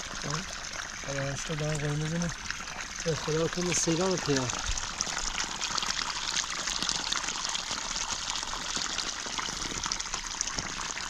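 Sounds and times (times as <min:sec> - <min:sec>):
running water trickling: 0:00.0 - 0:11.0.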